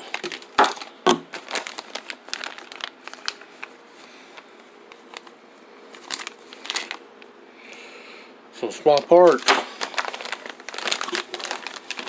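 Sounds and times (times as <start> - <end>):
plastic packaging crinkling: 0.0 - 7.0, 8.9 - 12.0.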